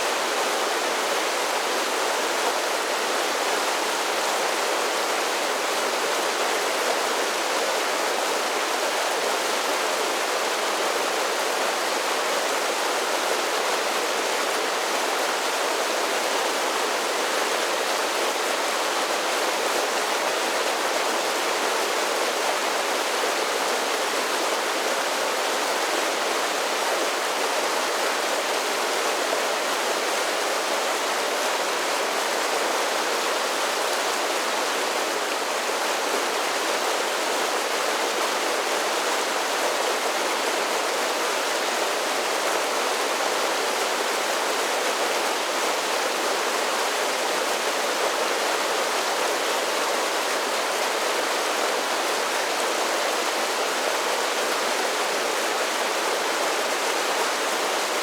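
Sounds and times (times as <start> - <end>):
creek cascading over small falls: 0.0 - 58.0.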